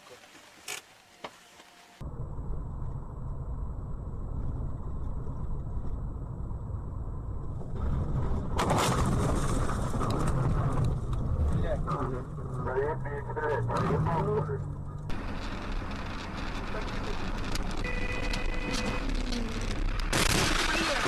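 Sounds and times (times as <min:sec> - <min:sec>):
car road and engine rumble: 0:00.4 - 0:21.0.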